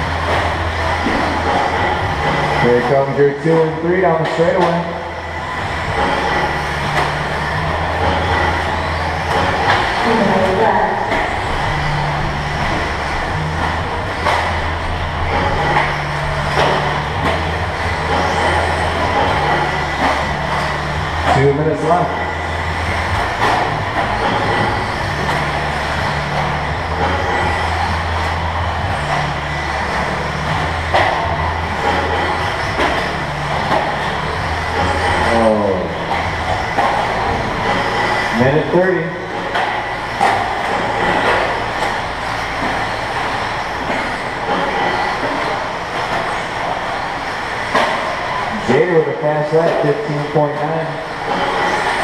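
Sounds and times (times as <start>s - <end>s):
low hum: 0.0s - 52.0s
toy car motors whining: 0.0s - 52.0s.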